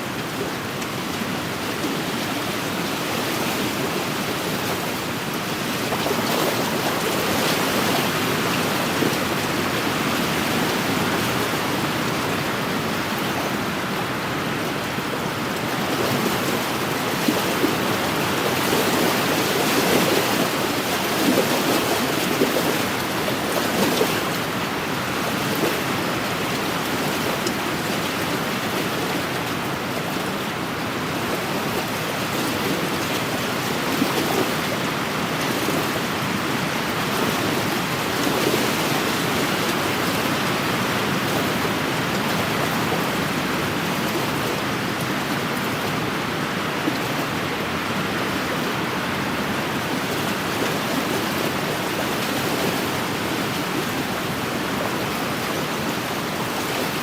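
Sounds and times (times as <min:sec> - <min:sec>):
lake waves washing against shore: 0:00.0 - 0:57.0.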